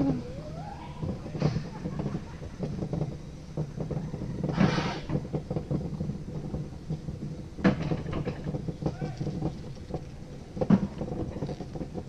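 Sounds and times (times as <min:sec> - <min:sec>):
sled rumbling on steel rails: 0:00.0 - 0:12.0
rattling clatter: 0:01.0 - 0:12.0.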